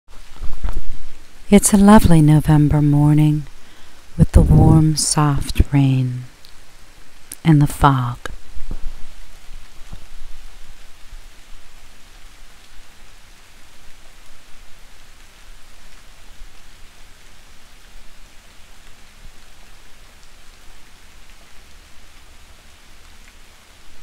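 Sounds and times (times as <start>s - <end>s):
soft rain falling: 0.1s - 24.0s.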